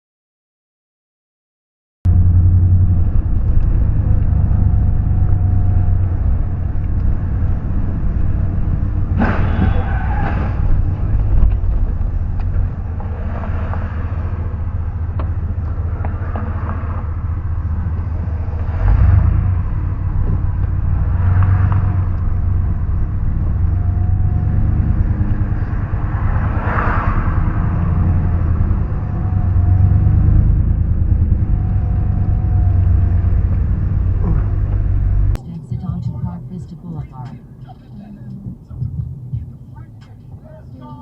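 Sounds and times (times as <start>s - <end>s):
car engine and road noise: 2.0s - 41.0s.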